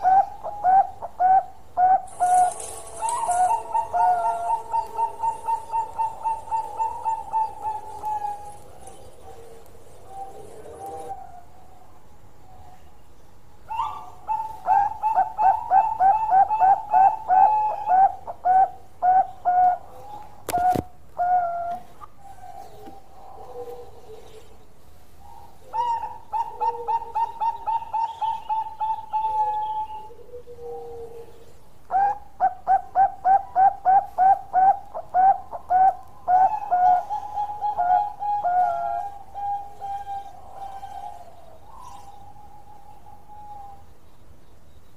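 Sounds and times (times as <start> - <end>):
dove cooing song: 0.0 - 44.4.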